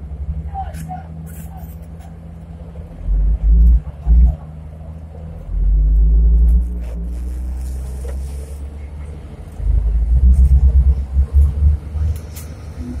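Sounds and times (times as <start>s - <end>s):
diesel engines rumbling under load: 0.0s - 13.0s.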